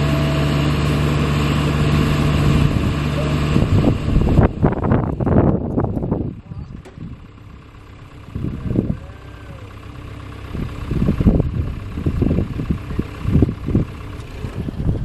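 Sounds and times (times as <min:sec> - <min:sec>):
excavator diesel engine idling: 0:00.0 - 0:15.0
low rumbling swells: 0:01.6 - 0:15.0.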